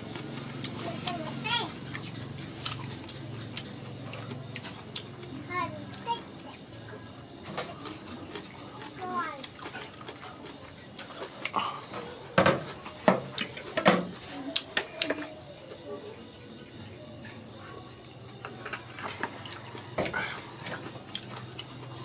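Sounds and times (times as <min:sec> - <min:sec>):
cricket trilling: 0:00.0 - 0:22.0.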